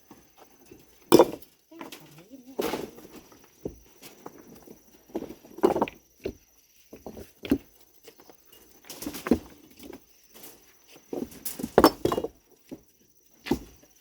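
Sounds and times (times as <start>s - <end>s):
knocks and thuds of construction work: 0.1s - 7.8s, 8.9s - 10.5s, 11.1s - 13.9s.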